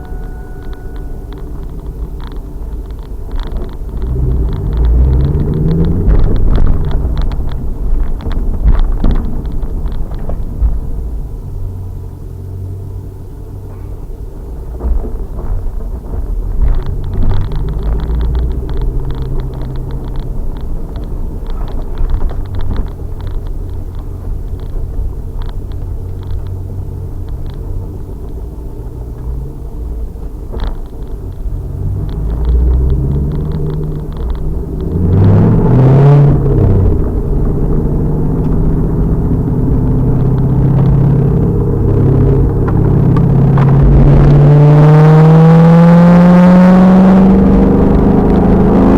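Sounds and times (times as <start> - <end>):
car engine revving on race track: 0.0 - 13.9, 14.8 - 48.9.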